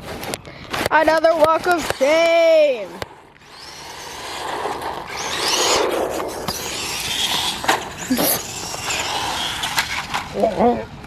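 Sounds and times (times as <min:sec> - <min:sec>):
tyres crunching on rough ground: 0:00.0 - 0:10.5
rc truck motor whining: 0:00.8 - 0:10.5.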